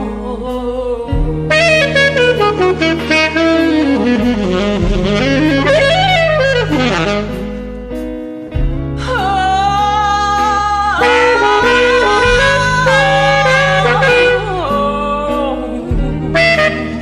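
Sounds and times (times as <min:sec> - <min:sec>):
bass line: 0:00.0 - 0:17.0
saxophone lead notes: 0:00.0 - 0:17.0.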